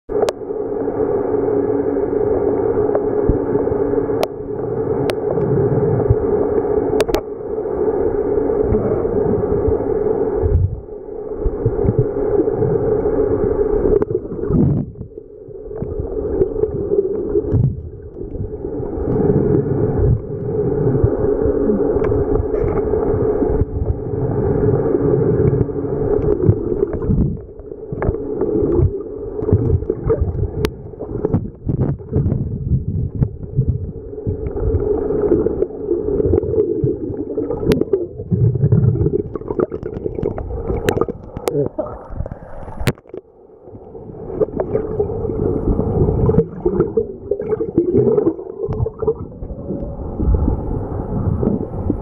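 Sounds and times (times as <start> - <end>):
underwater low hum: 0.1 - 52.0
water gurgling: 0.1 - 52.0.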